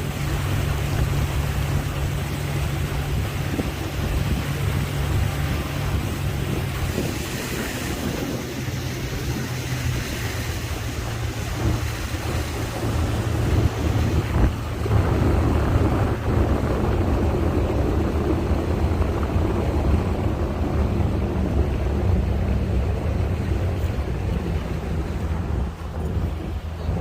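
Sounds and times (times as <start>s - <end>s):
boat motor running: 0.0s - 27.0s
water rushing past hull: 0.0s - 27.0s
wind buffeting microphone: 0.0s - 27.0s.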